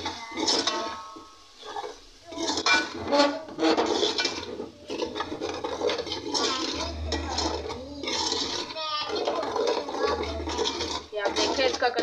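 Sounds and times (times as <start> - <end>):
metal spoon scraping a metal pot: 0.0 - 12.0.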